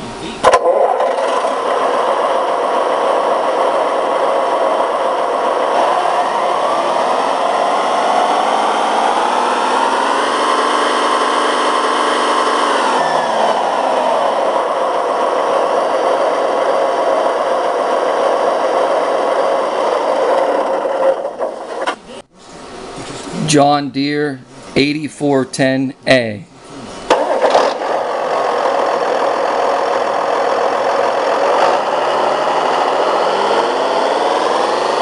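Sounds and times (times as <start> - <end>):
tractor engine revving: 0.4 - 22.3, 26.6 - 35.0.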